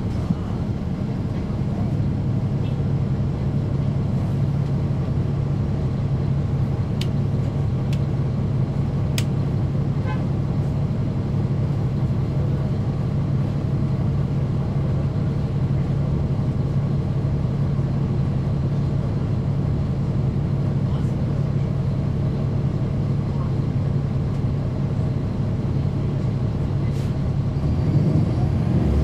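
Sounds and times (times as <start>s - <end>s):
bus diesel engine droning: 0.0s - 29.0s.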